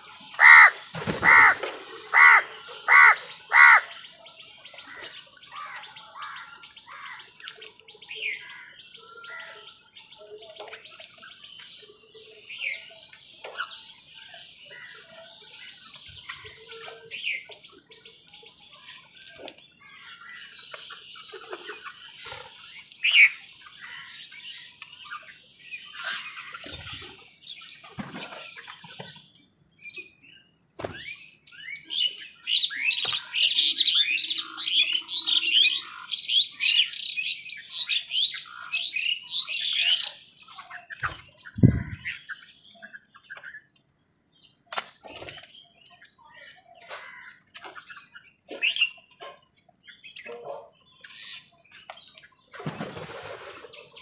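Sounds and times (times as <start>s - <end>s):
birds chirping and squawking: 0.0s - 54.0s.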